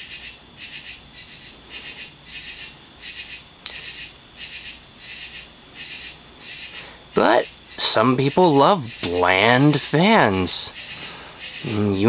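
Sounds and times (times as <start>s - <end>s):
faint low hum: 0.0s - 12.0s
insects chirping: 0.0s - 12.0s.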